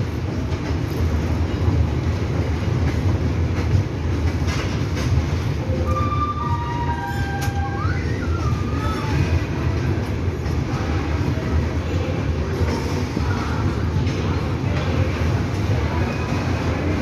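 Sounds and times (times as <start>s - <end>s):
train coaches rumbling on track: 0.0s - 17.0s.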